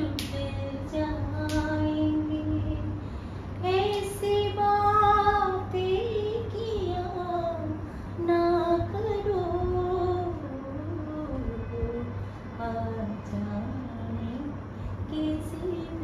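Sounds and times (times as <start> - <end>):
steady low hum: 0.0 - 16.0
woman singing unaccompanied: 0.0 - 16.0.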